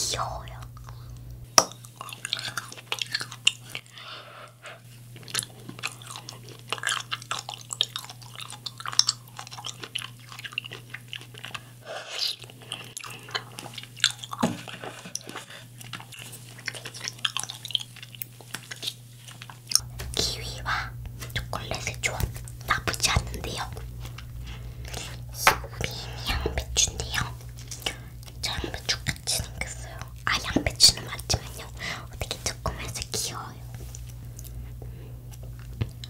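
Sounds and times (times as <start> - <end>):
chewing and crunching: 0.4 - 36.0.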